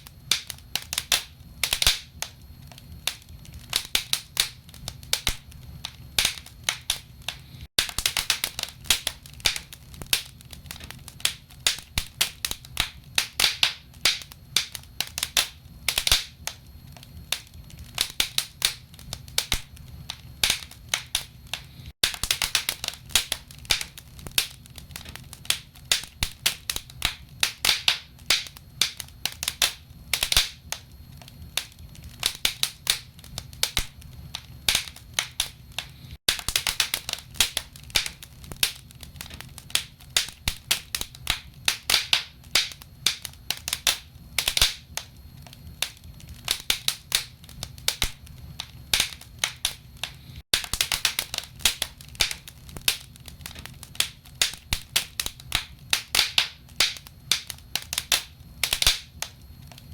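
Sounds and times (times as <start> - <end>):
firewood crackling and popping: 0.0 - 59.9
low fire rumble: 0.0 - 59.9.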